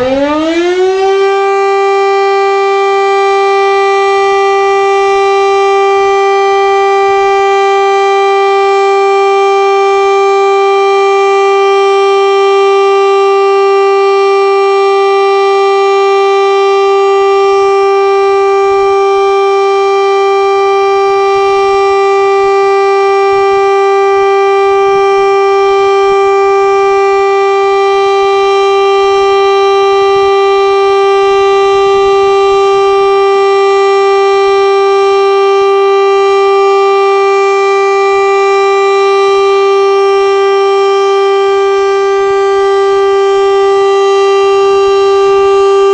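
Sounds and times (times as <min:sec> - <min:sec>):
siren steady tone: 0:00.0 - 0:45.9.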